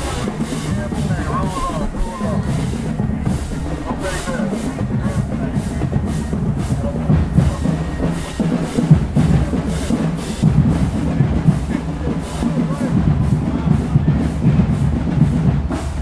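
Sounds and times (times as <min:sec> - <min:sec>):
cymbal crashes: 0:00.0 - 0:16.0
heavy bass drums: 0:00.0 - 0:16.0
marching band playing: 0:00.0 - 0:16.0.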